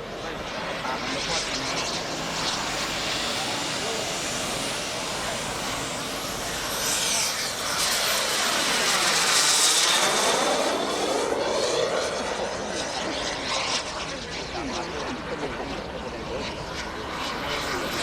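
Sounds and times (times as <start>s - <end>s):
model jet turbine whine: 0.0s - 18.0s.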